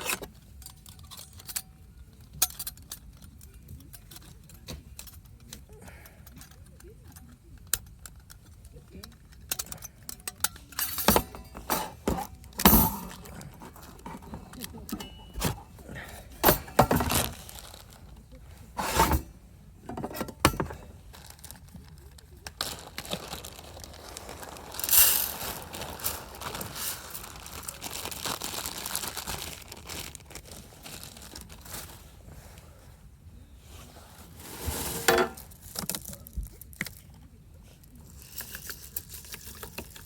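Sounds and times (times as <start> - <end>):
crinkling and rustling: 0.0 - 40.0.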